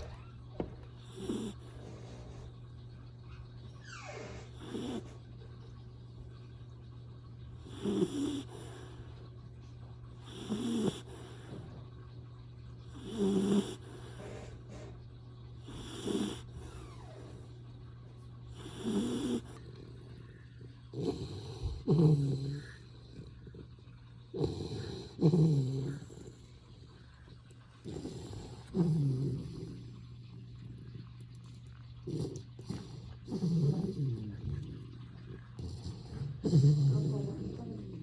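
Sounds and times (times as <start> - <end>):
puppy snoring: 0.0 - 2.7, 3.8 - 5.5, 7.6 - 9.3, 10.1 - 11.9, 12.8 - 17.6, 18.5 - 38.0
steady low hum: 0.0 - 38.0.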